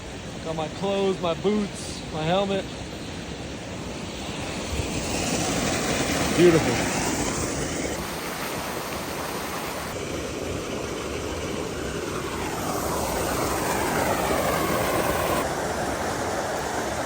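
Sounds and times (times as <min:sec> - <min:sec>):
creek and waterfall rushing: 0:00.0 - 0:17.0
propeller airplane drone: 0:00.0 - 0:17.0.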